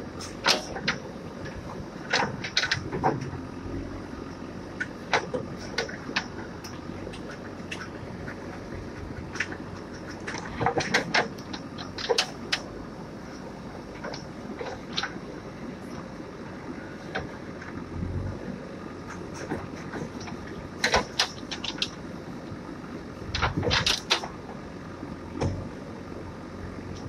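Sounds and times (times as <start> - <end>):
digger diesel engine running: 0.0 - 27.0.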